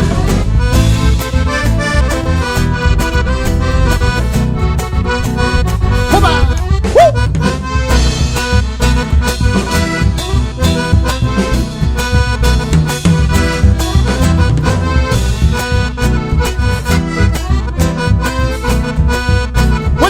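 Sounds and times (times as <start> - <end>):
accordion melody: 0.0 - 20.0
bass line: 0.0 - 20.0
steady dance beat: 0.9 - 18.2.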